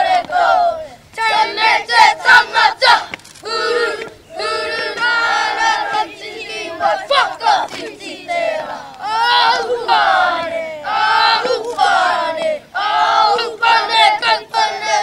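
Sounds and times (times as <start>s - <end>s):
boys chanting in unison: 0.0s - 15.0s.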